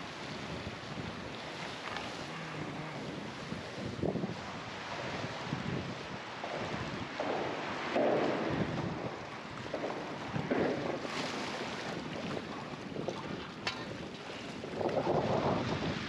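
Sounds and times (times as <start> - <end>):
choppy sea: 0.0 - 16.0
rushing wind: 0.0 - 16.0
wind buffeting microphone: 0.0 - 16.0.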